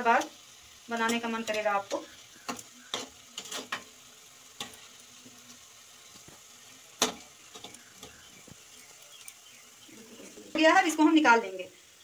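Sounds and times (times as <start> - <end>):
fritters sizzling in oil: 0.0 - 12.0.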